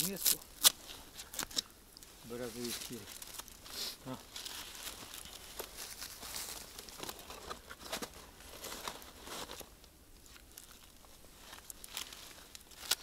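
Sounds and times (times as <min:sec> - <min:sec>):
birch bark tearing and crackling: 0:00.0 - 0:08.1, 0:09.0 - 0:13.0.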